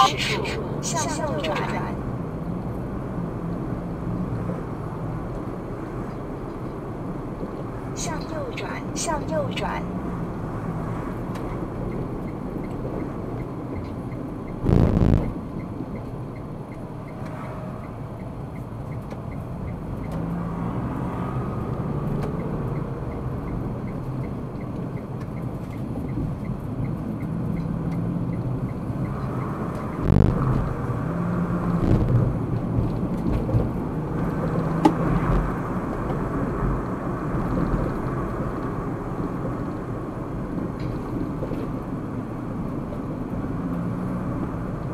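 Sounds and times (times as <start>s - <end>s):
car engine and tyre road noise: 0.0s - 44.9s.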